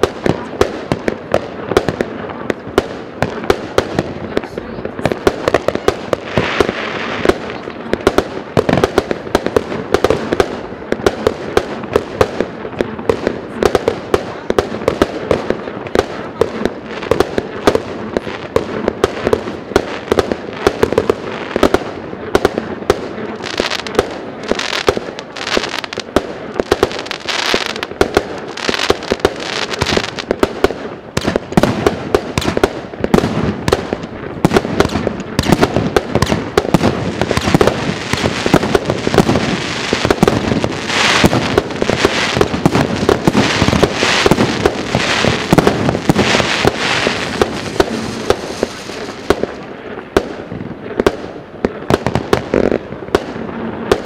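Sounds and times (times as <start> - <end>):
firework aerial bursts: 0.0 - 54.0
hissing crackling fireworks: 0.0 - 54.0.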